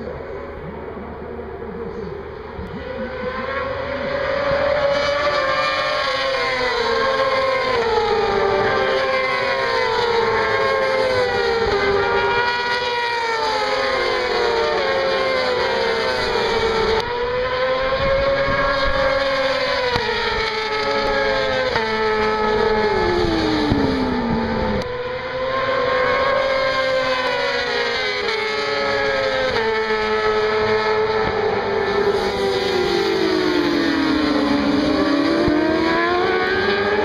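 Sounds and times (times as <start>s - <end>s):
racing motorcycles revving: 0.0s - 37.0s.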